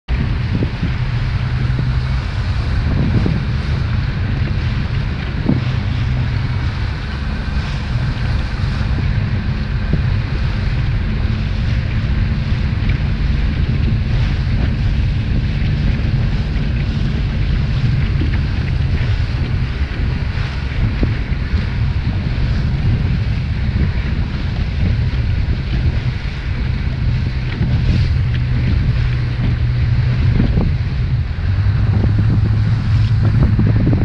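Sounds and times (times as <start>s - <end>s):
boat engine humming: 0.0s - 34.0s
rush of choppy water: 0.0s - 34.0s
wind buffeting microphone: 0.0s - 34.0s.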